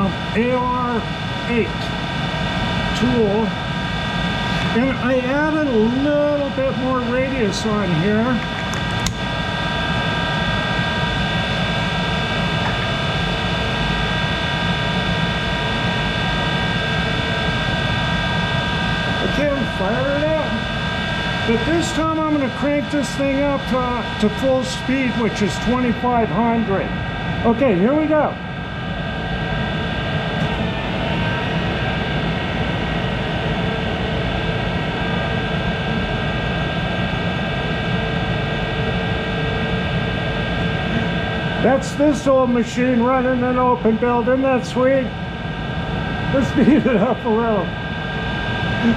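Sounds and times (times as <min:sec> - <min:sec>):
constant hum: 0:00.0 - 0:48.9
lathe whine: 0:00.0 - 0:48.9.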